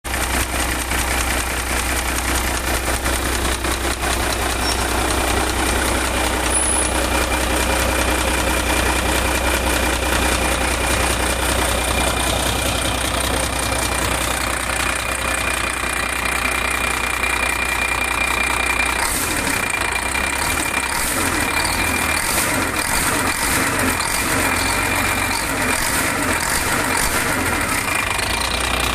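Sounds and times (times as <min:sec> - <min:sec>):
diesel engine idling: 0:00.1 - 0:28.9.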